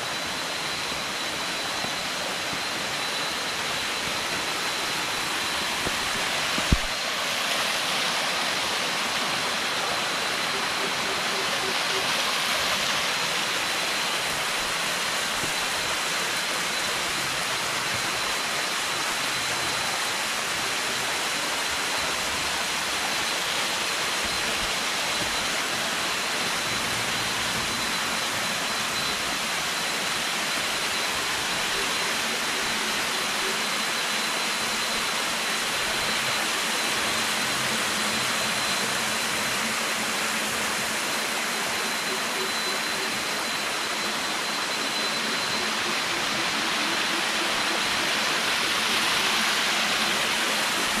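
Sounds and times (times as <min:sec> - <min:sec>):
water cascading over rocks: 0:00.0 - 0:51.0.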